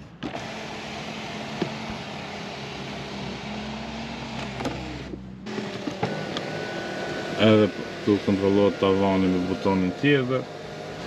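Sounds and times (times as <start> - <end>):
electric window blinds motor humming: 0.2 - 11.0.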